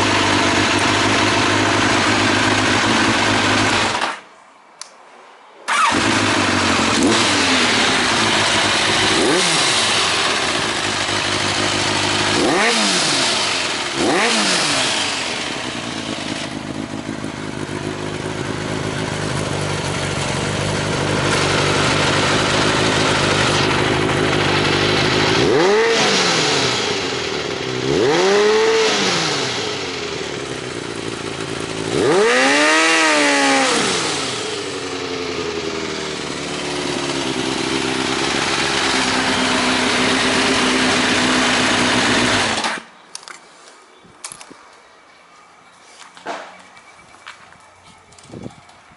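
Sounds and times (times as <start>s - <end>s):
motorcycle engine idling: 0.0s - 4.0s, 5.8s - 42.6s.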